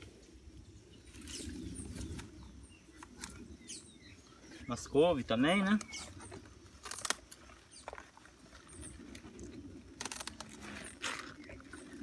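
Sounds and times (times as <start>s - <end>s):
leaves rustling and crackling: 0.0s - 3.8s, 5.3s - 12.0s.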